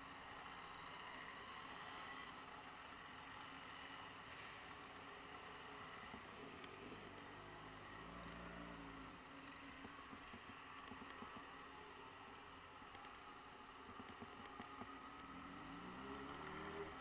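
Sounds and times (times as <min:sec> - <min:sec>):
faint muffled hiss: 0:00.0 - 0:17.0
motorcycle engines moving off: 0:00.0 - 0:17.0.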